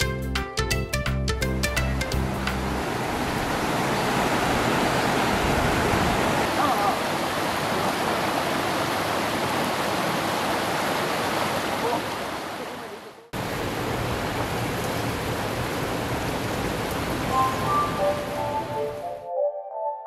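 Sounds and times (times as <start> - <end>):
stream water rushing over rocks: 2.0 - 19.0.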